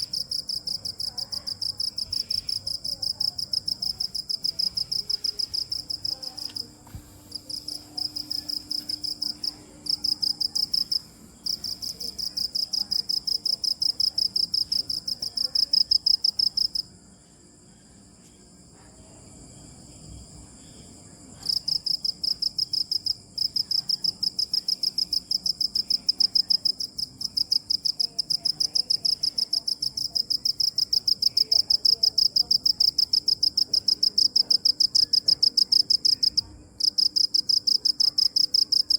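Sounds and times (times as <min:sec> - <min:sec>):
cricket chirping: 0:00.0 - 0:38.9
faint insect trill: 0:00.0 - 0:38.9.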